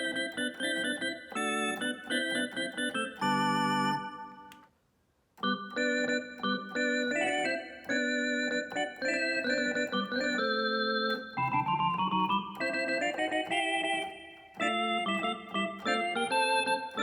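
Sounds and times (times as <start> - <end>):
synthesizer keyboard chords: 0.0 - 4.7, 5.4 - 17.0.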